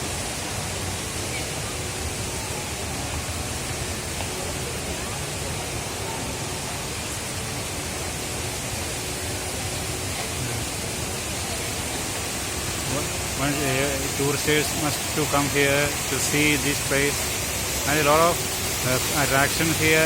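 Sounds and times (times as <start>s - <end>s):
waterfall pouring into basin: 0.0s - 20.0s.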